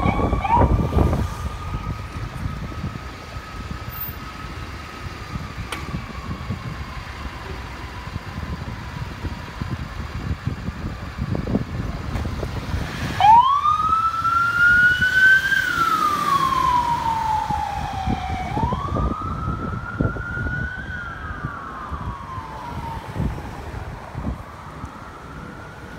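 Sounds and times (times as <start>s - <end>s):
siren wailing: 0.0s - 9.1s, 13.2s - 25.9s.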